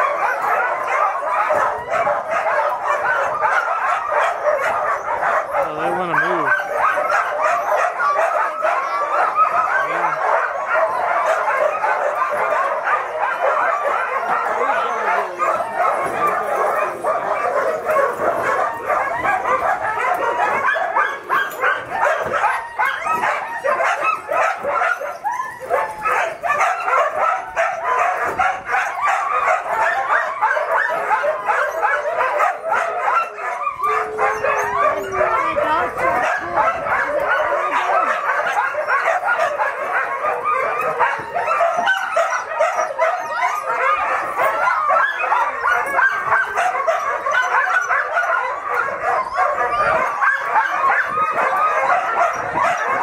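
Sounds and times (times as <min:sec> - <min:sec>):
sled dogs barking and yipping: 0:00.0 - 0:53.0.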